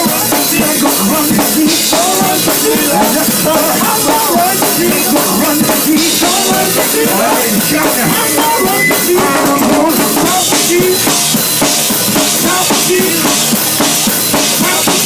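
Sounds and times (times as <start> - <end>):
drum kit with cymbals: 0.0 - 15.0
men singing gospel: 0.0 - 15.0.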